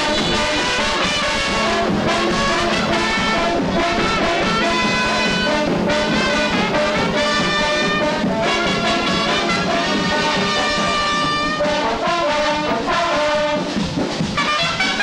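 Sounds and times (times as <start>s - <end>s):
brass instruments: 0.0s - 15.0s
marching band playing: 0.0s - 15.0s.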